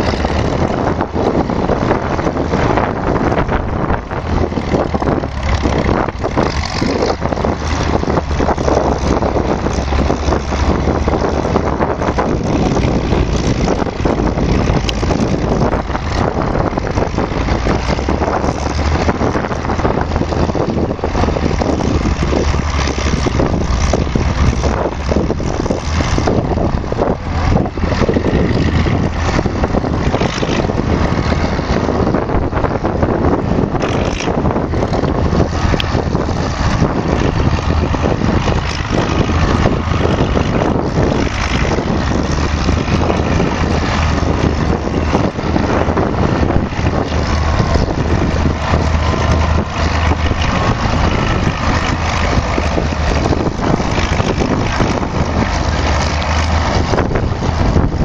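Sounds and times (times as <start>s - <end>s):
crawler tractor engine running: 0.0s - 58.0s.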